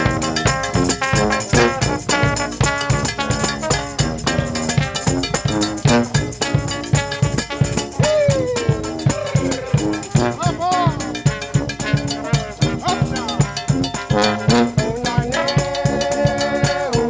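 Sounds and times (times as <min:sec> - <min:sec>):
brass horns playing funk: 0:00.0 - 0:17.0
steady drum beat: 0:00.0 - 0:17.0.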